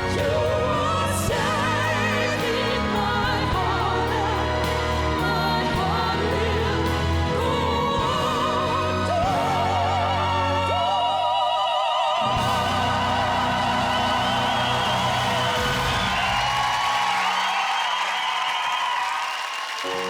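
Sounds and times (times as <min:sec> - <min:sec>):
band and orchestral backing: 0:00.0 - 0:11.6, 0:12.2 - 0:18.2
voices singing operatic style: 0:00.0 - 0:17.4.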